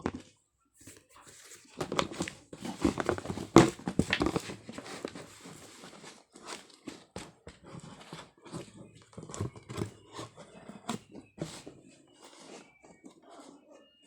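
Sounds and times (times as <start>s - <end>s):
shoes and shoebox handled: 0.0s - 13.8s.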